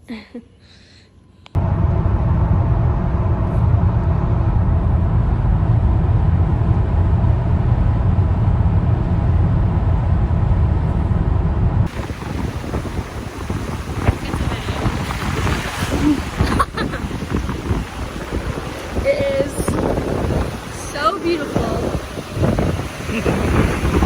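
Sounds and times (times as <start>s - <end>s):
car road and engine rumble: 1.5s - 24.0s
wind buffeting microphone: 1.6s - 24.0s.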